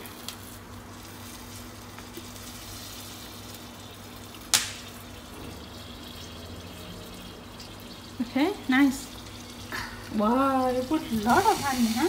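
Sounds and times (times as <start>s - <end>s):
honey bubbling and sizzling: 0.0s - 12.0s.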